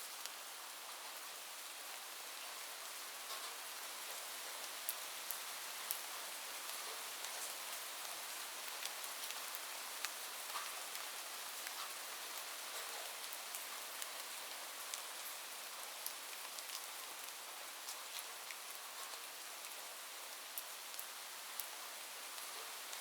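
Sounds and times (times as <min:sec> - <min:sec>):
light rain pattering: 0:00.0 - 0:23.0.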